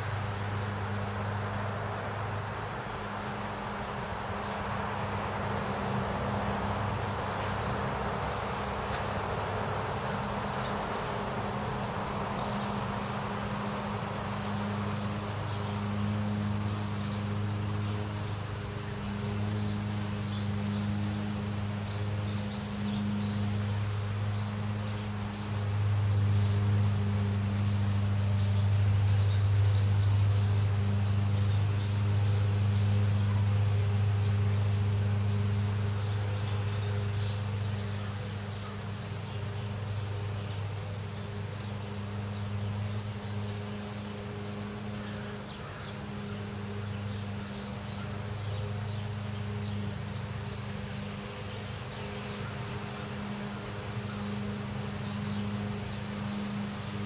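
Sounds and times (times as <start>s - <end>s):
faint high whine: 0.0s - 57.0s
traffic engine hum: 0.0s - 57.0s.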